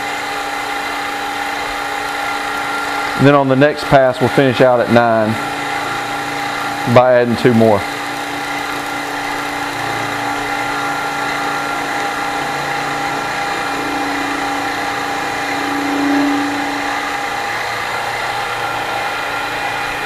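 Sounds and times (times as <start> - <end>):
milling machine whine and hum: 0.0 - 20.0.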